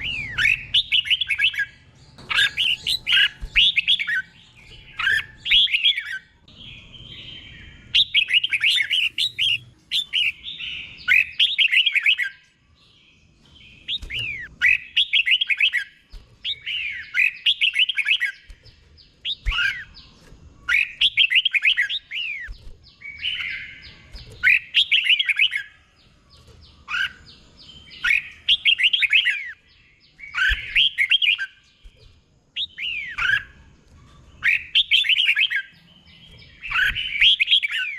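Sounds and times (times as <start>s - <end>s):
bird singing whistled notes: 0.0s - 37.9s.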